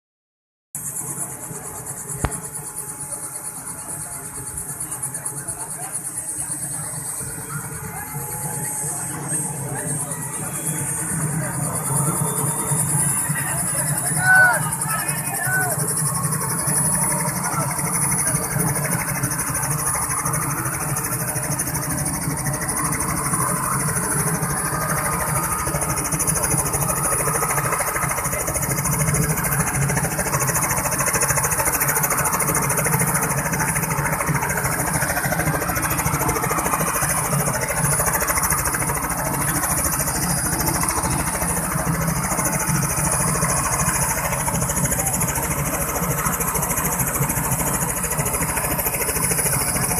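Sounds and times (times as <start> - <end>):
helicopter idling: 0.8 - 49.9.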